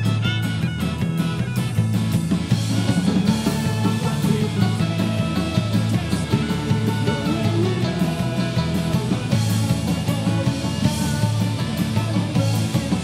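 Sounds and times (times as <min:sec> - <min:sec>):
bass guitar: 0:00.0 - 0:13.0
drums: 0:00.0 - 0:13.0
electric fiddle: 0:00.0 - 0:13.0
electric guitar: 0:00.0 - 0:13.0.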